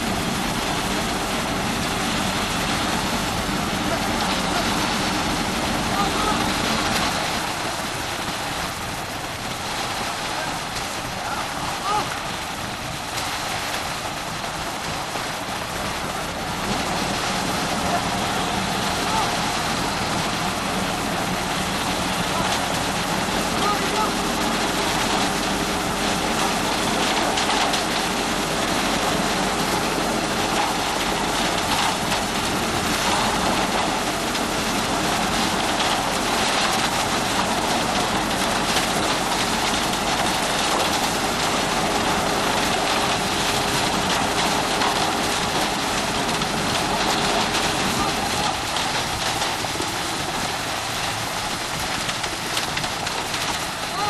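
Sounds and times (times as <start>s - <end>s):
concrete mixer truck running: 0.0s - 54.0s.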